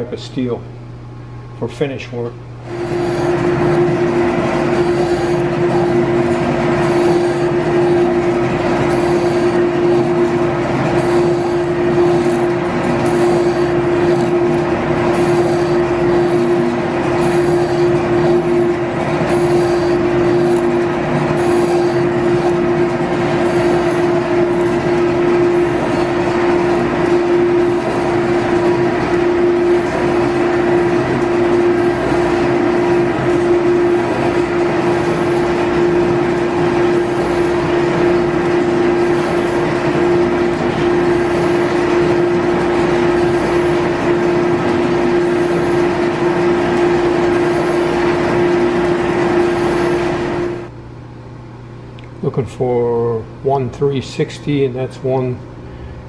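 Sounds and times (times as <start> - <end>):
motor hum: 0.0 - 56.0
metal shaper ram stroking: 2.7 - 50.6
tool cutting steel: 2.7 - 50.7.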